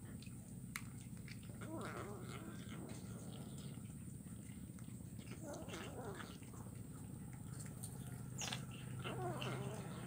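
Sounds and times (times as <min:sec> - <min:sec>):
kitten chewing bones: 0:00.0 - 0:10.0.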